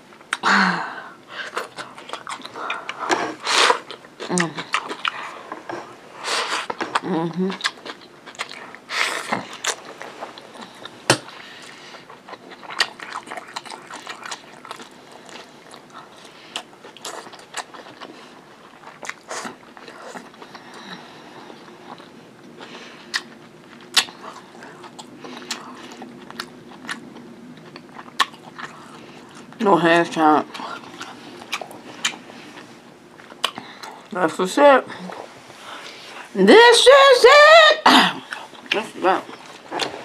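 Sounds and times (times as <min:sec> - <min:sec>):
person chewing food: 0:01.2 - 0:29.6, 0:30.3 - 0:34.1, 0:38.2 - 0:40.0.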